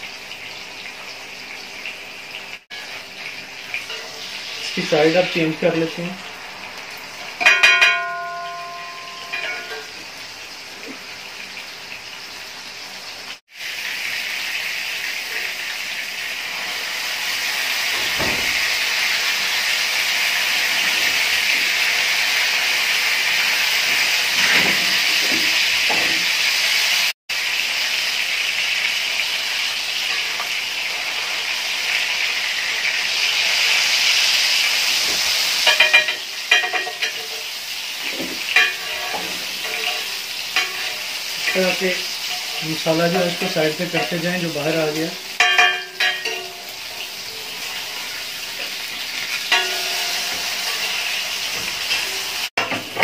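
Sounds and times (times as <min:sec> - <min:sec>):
meat sizzling in oil: 0:00.0 - 0:53.0.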